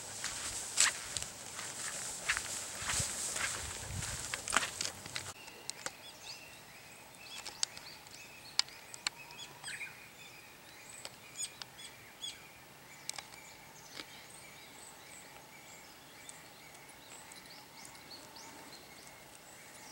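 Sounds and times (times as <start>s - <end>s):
faint outdoor background: 0.0s - 19.9s
small birds chirping: 0.0s - 19.9s.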